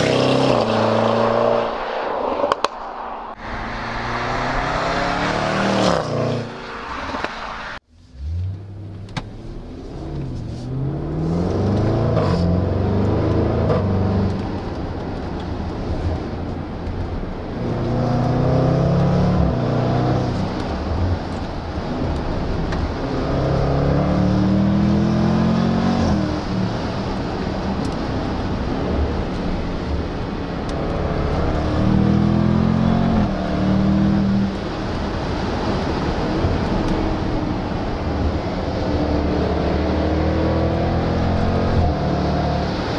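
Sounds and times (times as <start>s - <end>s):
car engine passing at speed: 0.0s - 15.0s, 17.4s - 42.9s
car engine accelerating hard: 0.0s - 16.4s, 17.1s - 42.9s.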